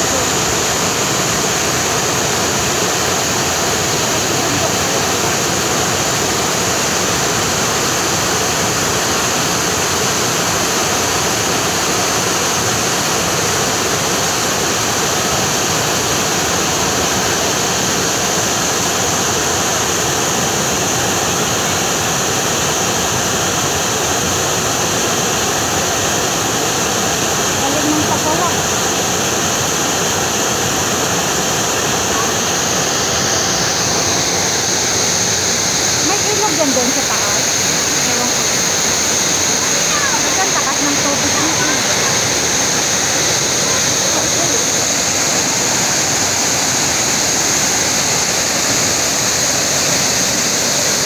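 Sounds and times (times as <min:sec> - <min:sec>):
waterfall splashing into pool: 0:00.0 - 0:51.0.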